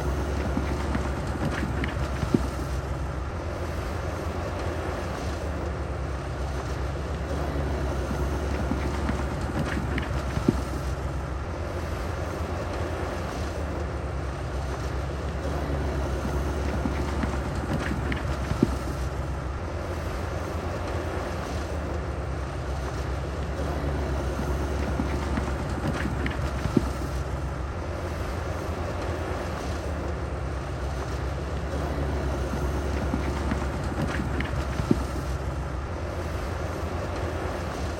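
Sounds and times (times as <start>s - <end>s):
heavy diesel engine running: 0.0s - 37.9s.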